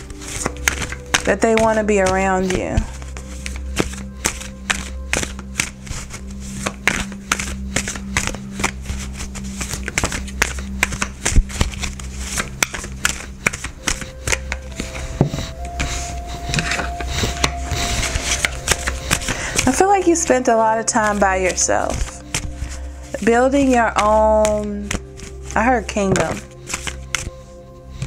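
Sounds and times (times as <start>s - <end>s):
cards shuffled by hand: 0.0s - 20.2s, 20.9s - 28.0s.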